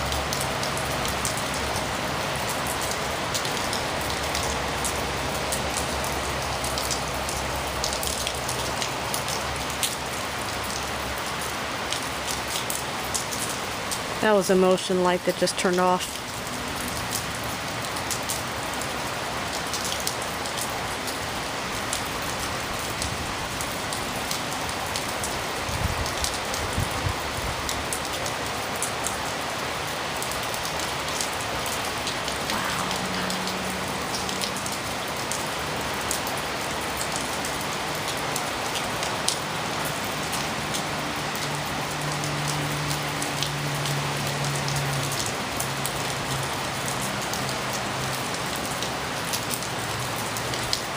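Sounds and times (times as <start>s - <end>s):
freeway traffic roar: 0.0s - 50.9s
heavy rain falling: 0.0s - 50.9s
raindrops spattering close by: 0.0s - 50.9s.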